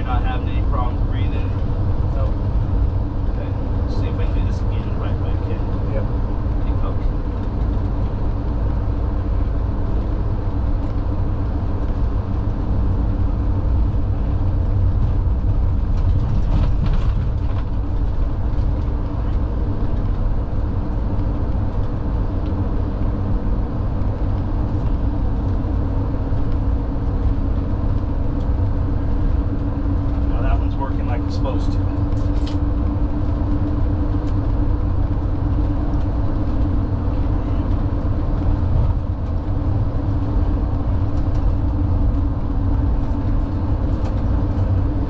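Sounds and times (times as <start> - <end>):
engine and road rumble: 0.0 - 45.0.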